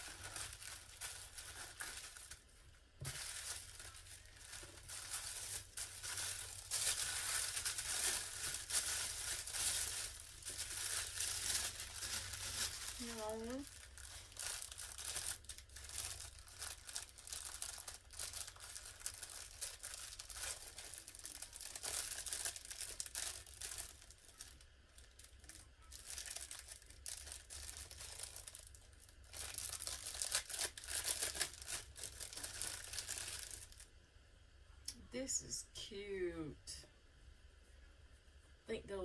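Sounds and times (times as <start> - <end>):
plastic bag crinkling: 0.0 - 33.9.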